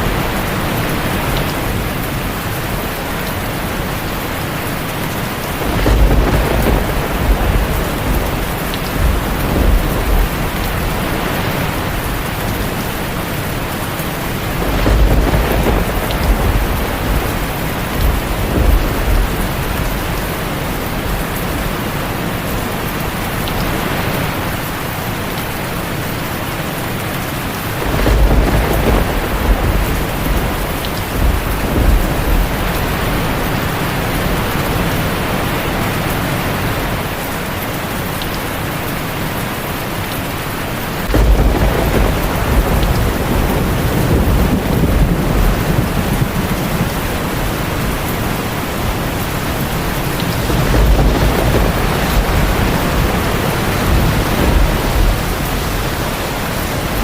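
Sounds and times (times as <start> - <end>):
thunder rumbling: 0.0 - 25.0, 27.4 - 37.2, 40.9 - 57.0
heavy rain on a tin roof: 0.0 - 57.0.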